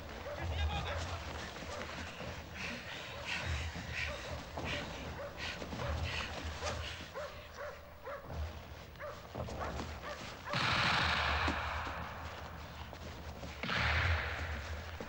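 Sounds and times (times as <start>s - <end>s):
footsteps running on snow: 0.0s - 15.0s.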